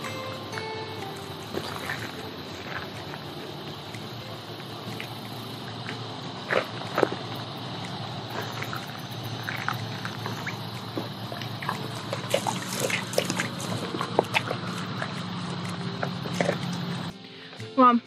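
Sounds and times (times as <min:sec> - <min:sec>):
stream trickling over stones: 0:00.0 - 0:17.1
footsteps splashing on wet rocks: 0:01.1 - 0:17.1.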